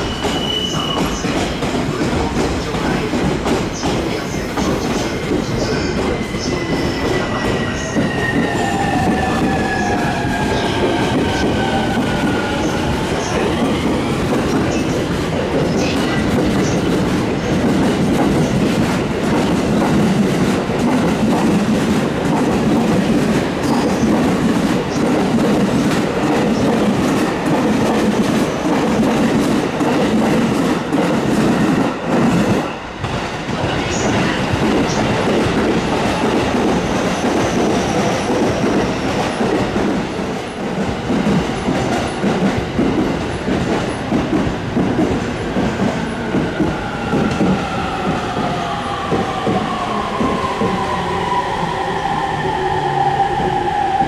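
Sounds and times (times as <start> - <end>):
train wheels clattering on rails: 0.0 - 51.4.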